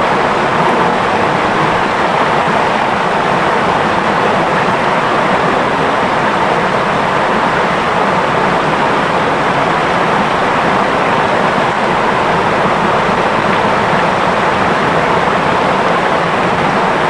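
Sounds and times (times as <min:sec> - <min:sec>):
shallow river flowing over stones: 0:00.0 - 0:17.0.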